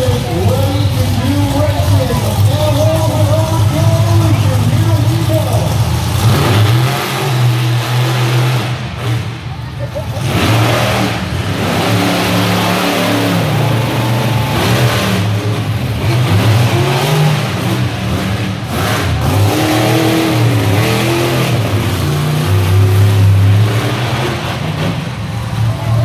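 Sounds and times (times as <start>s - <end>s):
monster truck engines revving: 0.0s - 26.0s.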